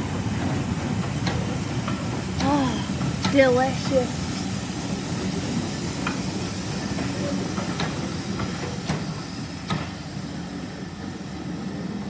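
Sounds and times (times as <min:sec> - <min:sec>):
steam hissing: 0:00.0 - 0:12.0
train coaches rumbling on rails: 0:00.0 - 0:12.0.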